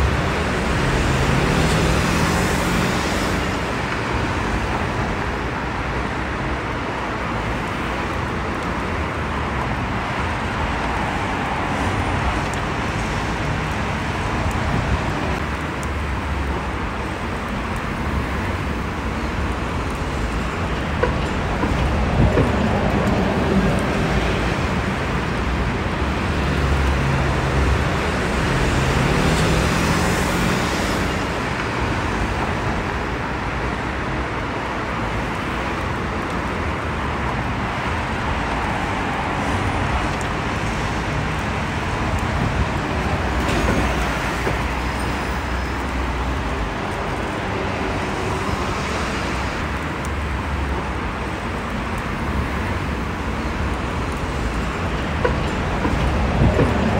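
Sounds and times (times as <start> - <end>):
road noise from passing cars: 0.0 - 56.9.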